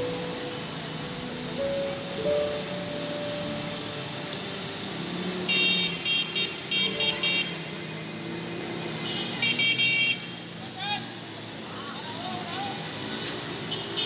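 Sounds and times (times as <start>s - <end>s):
traffic through flood water: 0.0s - 14.0s.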